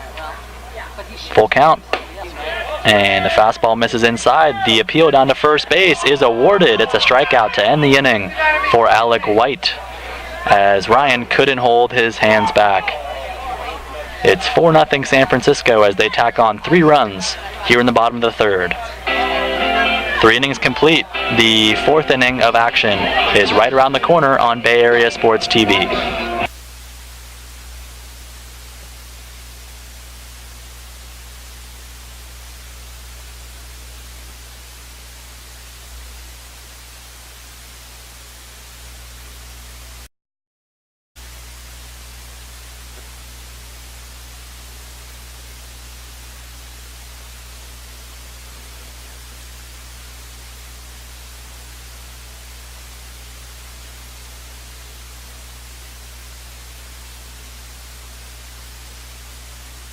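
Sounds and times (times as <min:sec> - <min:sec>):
static hiss: 0:00.0 - 0:40.1, 0:41.2 - 0:59.9.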